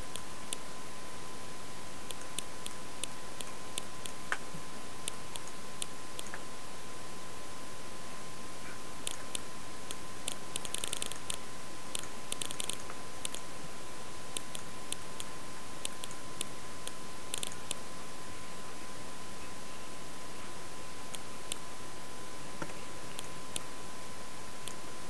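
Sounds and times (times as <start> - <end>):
constant high whine: 0.0 - 25.0
steady hiss: 0.0 - 25.0.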